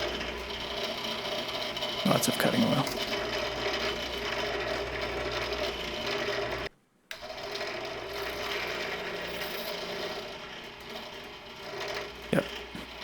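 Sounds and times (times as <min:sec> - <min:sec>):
drill press whirring: 0:00.0 - 0:13.0.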